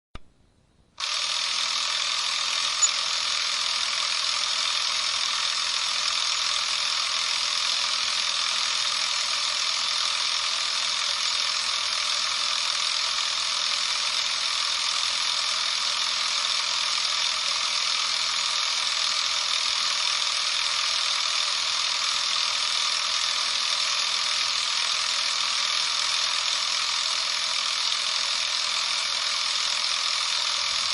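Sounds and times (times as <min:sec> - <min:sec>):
film camera motor whirring: 0:01.0 - 0:30.9.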